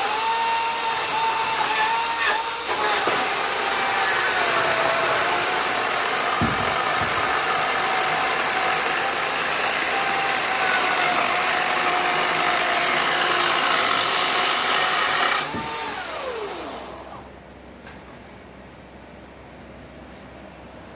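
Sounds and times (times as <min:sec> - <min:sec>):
chainsaw cutting wood: 0:00.0 - 0:17.3.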